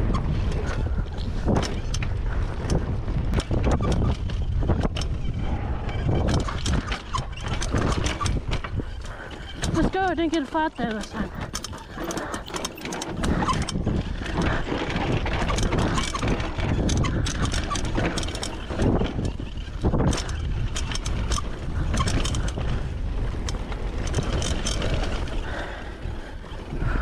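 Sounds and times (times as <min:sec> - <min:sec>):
bike rattling: 0:00.0 - 0:27.0
tyres on dirt: 0:00.0 - 0:27.0
wind rumbling on microphone: 0:00.0 - 0:27.0.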